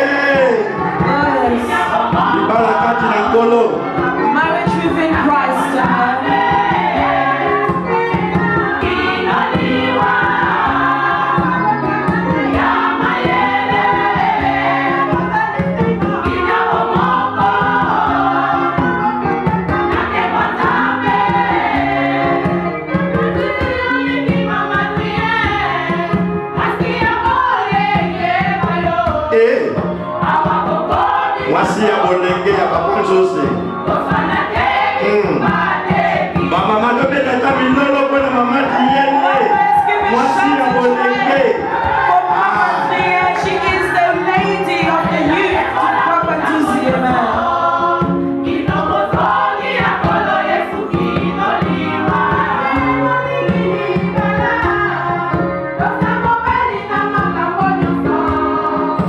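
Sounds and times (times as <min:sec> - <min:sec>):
women's choir singing: 0:00.0 - 0:59.0.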